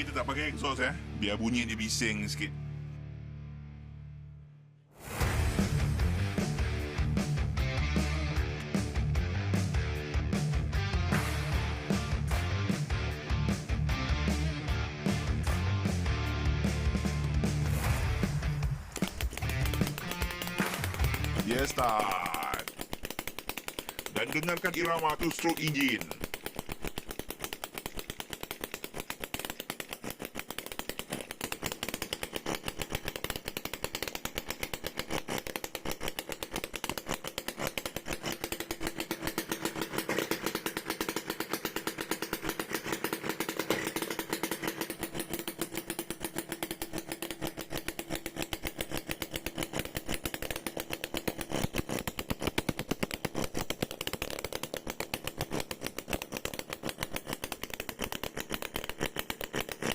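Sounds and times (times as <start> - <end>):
small two-stroke engine running: 0.0 - 2.4, 5.0 - 59.9.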